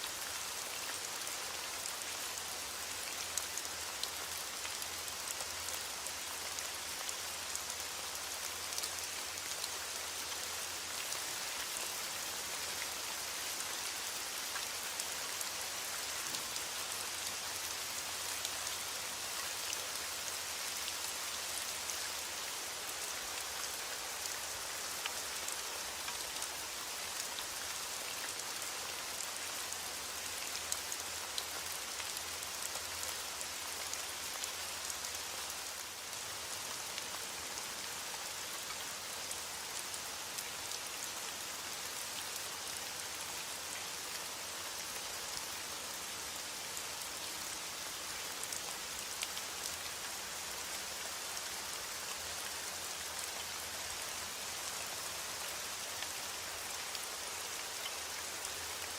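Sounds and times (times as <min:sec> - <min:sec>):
raindrops ticking on a surface: 0:00.0 - 0:44.0, 0:47.0 - 0:58.9
steady rain falling: 0:00.0 - 0:58.9.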